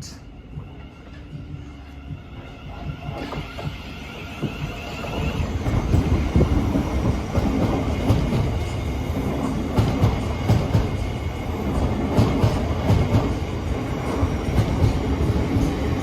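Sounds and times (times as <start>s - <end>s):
electric train approaching: 0.0s - 16.0s
train wheels knocking: 0.6s - 16.0s.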